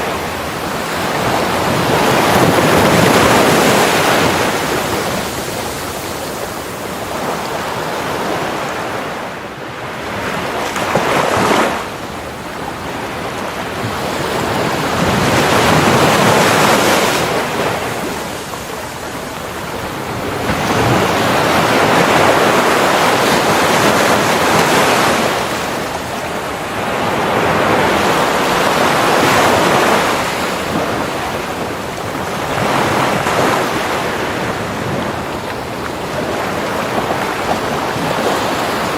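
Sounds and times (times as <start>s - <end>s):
surf breaking on beach: 0.0s - 38.9s.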